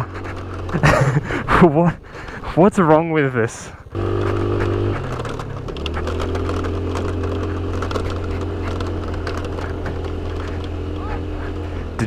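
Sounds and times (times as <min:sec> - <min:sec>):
rattles and clicks: 0:00.0 - 0:02.4, 0:03.9 - 0:12.0
scooter engine running: 0:00.0 - 0:02.4, 0:03.8 - 0:12.0.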